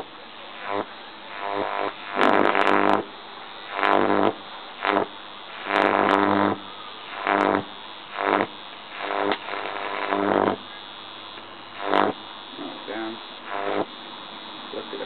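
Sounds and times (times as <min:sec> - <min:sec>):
electric arc buzzing: 0:00.0 - 0:15.0
electric arc snaps: 0:00.0 - 0:15.0.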